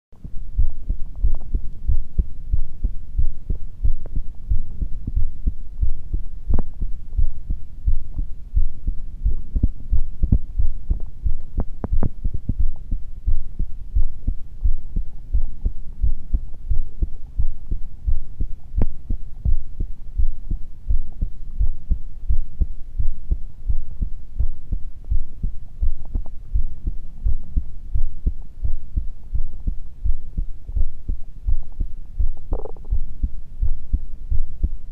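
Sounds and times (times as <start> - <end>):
heartbeat thumps: 0.2 - 34.9.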